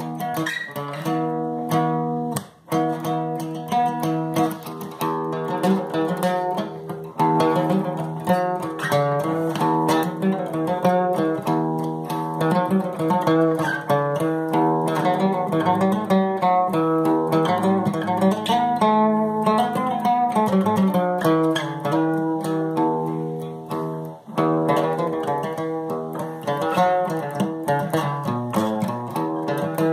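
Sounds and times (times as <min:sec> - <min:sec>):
solo guitar picking melody: 0:00.0 - 0:29.9.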